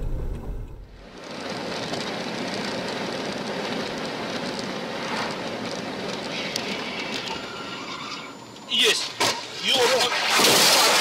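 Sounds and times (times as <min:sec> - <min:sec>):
car road and wind noise: 0:00.0 - 0:10.8.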